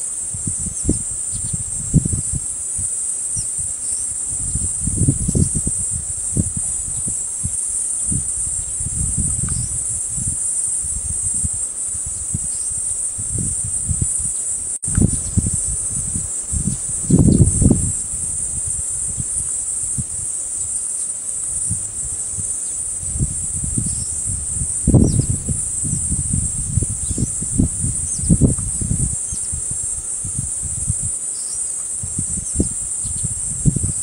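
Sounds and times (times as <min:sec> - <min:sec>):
high-pitched insect chorus: 0:00.0 - 0:34.0.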